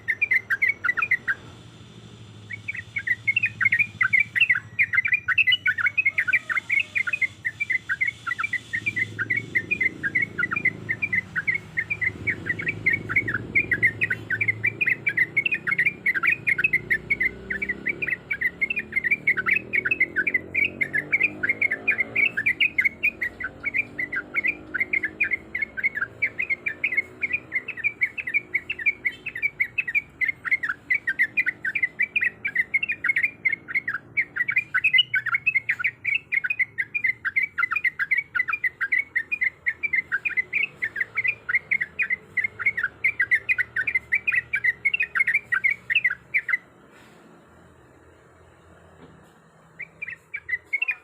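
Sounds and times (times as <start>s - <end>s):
bird chirping rapidly: 0.0s - 47.0s, 49.5s - 51.0s.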